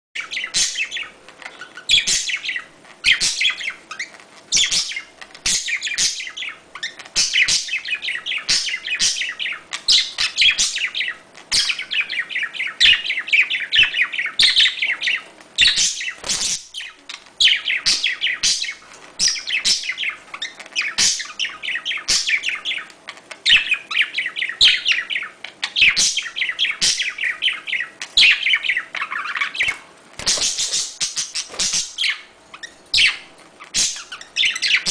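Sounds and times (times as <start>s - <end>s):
budgerigars chattering and warbling: 0.2s - 34.9s.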